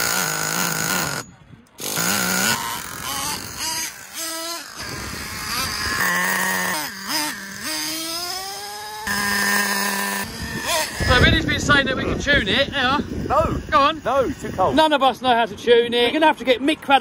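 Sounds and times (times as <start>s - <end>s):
rc truck engine whining: 0.0s - 15.2s.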